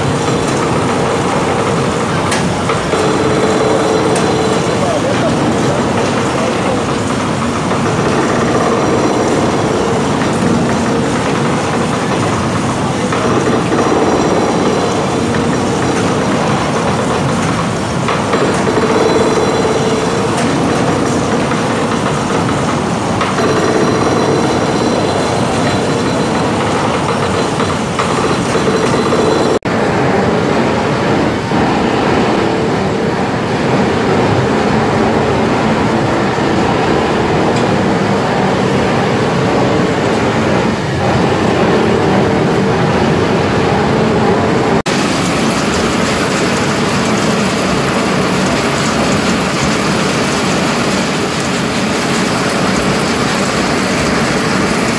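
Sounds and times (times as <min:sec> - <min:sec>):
mill machinery running: 0:00.0 - 0:54.9.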